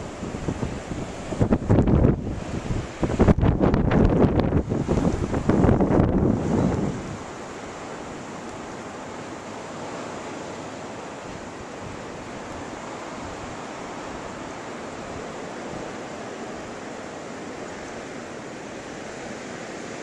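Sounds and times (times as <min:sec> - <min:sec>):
blizzard wind rushing: 0:00.0 - 0:20.0.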